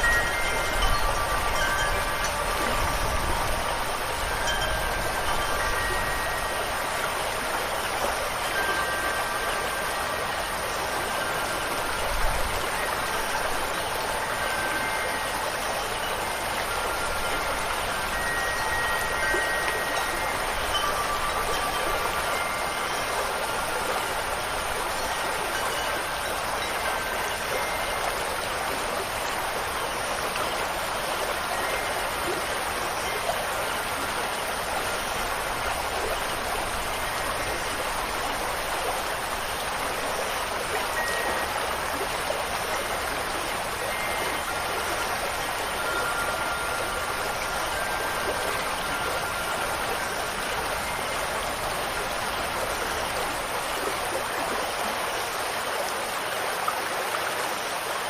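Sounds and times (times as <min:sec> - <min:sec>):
high wind-chime tones: 0:00.0 - 0:56.4
running water rushing: 0:00.0 - 0:58.0.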